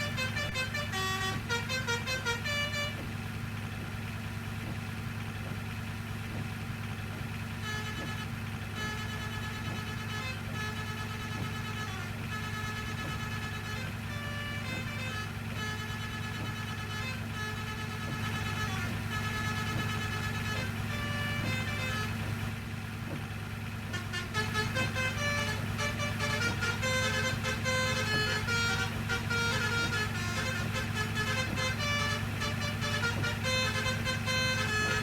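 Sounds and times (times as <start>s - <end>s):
bus horn melody: 0.0s - 35.0s
steady low hum: 0.0s - 35.0s.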